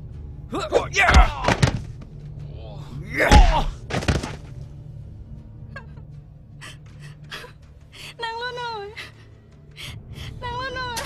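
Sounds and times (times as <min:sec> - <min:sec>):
low music drone: 0:00.0 - 0:11.0.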